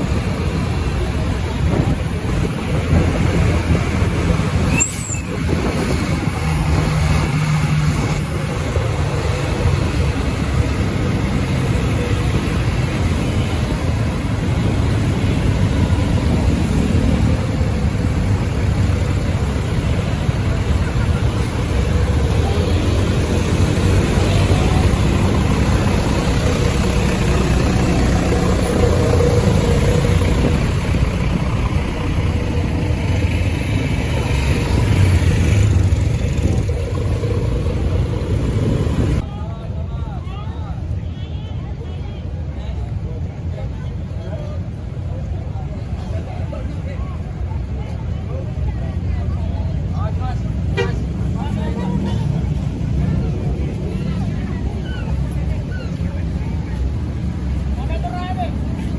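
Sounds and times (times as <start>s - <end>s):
road noise: 0.0s - 58.9s
vehicle engines rumbling: 0.0s - 58.9s.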